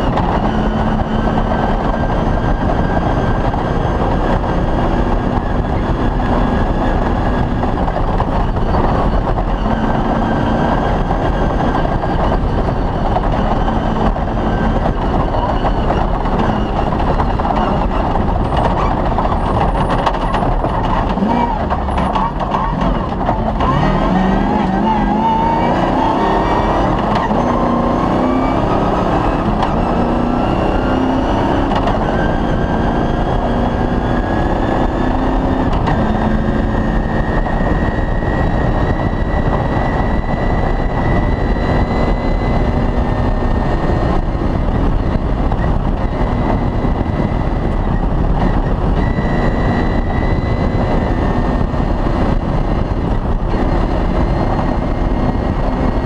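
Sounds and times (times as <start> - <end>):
rally car engine running hard: 0.0 - 56.0
tyre and chassis noise: 0.0 - 56.0.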